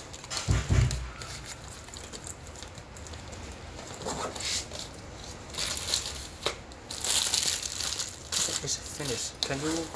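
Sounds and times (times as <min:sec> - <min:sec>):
small items clicking and rustling: 0:00.0 - 0:09.9.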